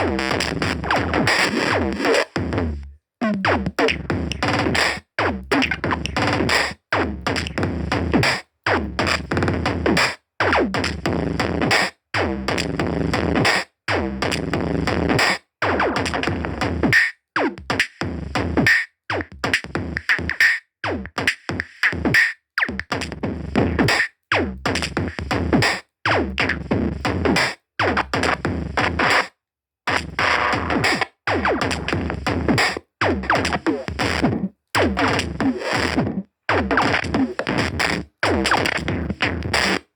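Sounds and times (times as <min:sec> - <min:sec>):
electronic music with drum machine: 0:00.0 - 0:29.3, 0:29.9 - 0:39.9.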